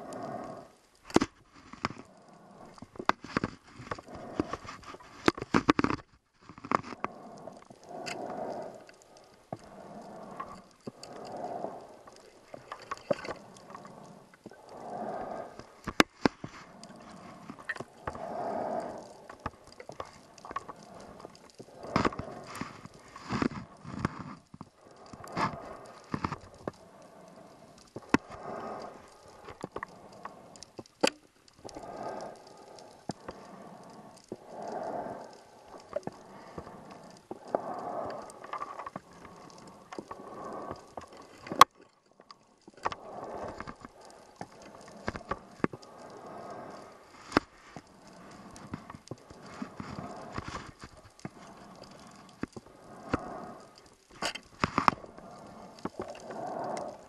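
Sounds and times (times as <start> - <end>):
underwater exhaust bubbles: 0.0 - 57.0.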